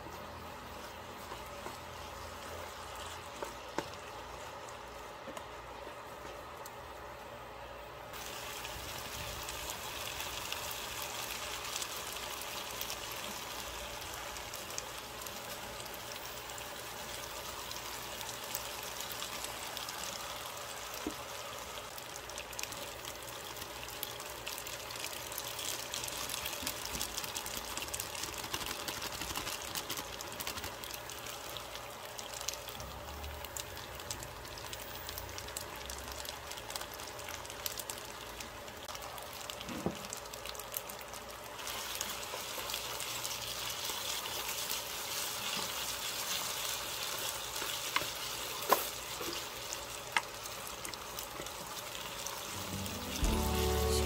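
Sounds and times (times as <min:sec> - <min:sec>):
food sizzling in a frying pan: 0:08.1 - 0:54.0.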